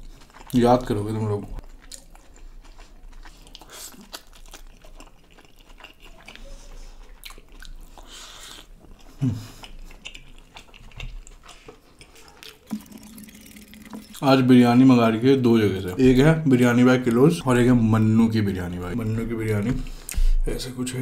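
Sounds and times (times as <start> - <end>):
person chewing food: 0.0 - 14.2, 16.7 - 20.4.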